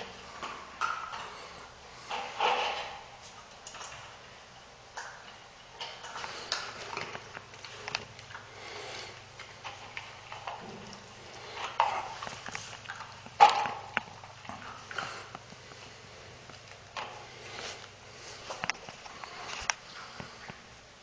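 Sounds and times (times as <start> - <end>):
dog eating from bowl: 0.0 - 20.6.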